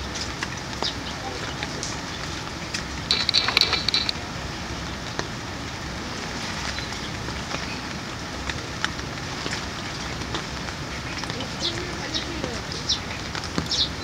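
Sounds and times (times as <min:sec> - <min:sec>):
rain on leaves: 0:00.0 - 0:14.0
raindrop ticks: 0:00.0 - 0:14.0.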